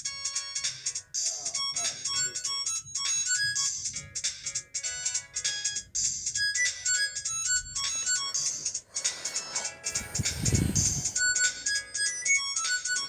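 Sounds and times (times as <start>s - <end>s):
phone ringtone melody: 0.0s - 4.1s, 4.8s - 13.0s.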